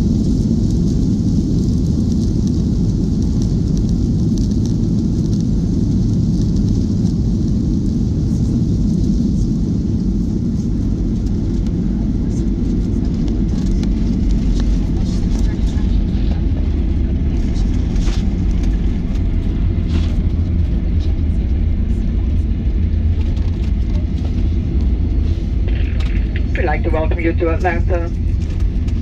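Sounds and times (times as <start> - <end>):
low rumble of engines and wheels: 0.0 - 29.0.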